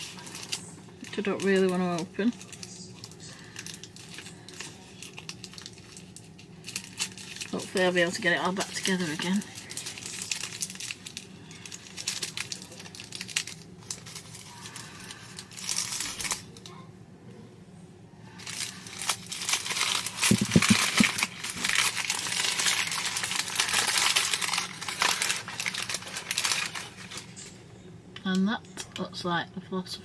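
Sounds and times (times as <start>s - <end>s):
wrapping paper crinkling: 0.0s - 16.6s, 18.3s - 27.6s.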